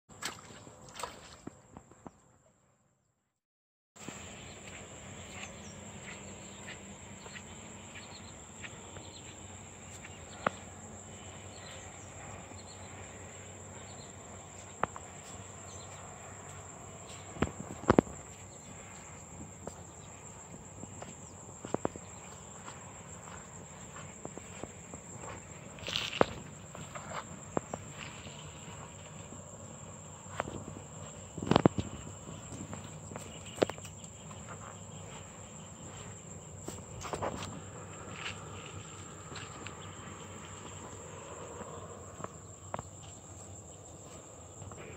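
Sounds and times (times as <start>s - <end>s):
insects trilling: 4.0s - 44.9s.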